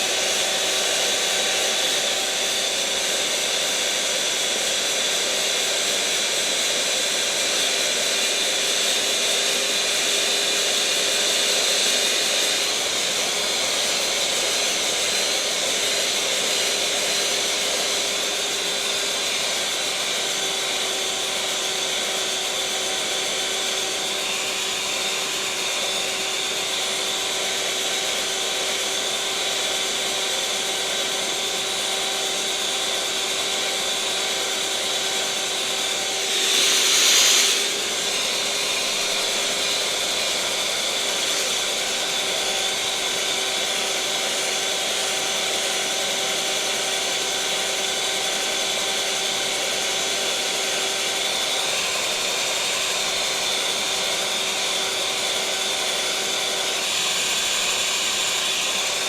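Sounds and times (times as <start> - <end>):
electric mixer motor whirring: 0.0 - 59.0.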